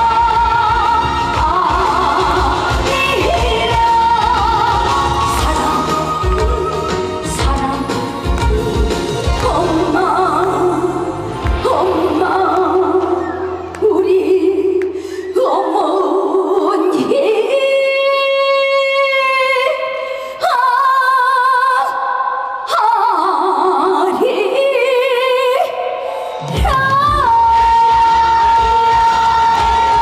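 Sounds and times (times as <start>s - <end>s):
woman singing with vibrato: 0.0s - 30.0s.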